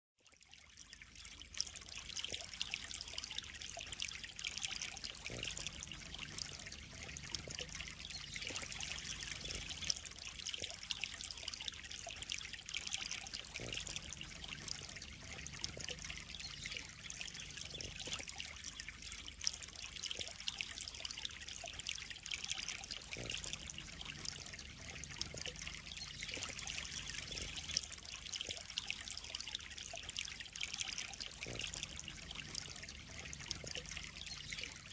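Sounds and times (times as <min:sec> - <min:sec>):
water splashing into pond: 0:00.2 - 0:34.9.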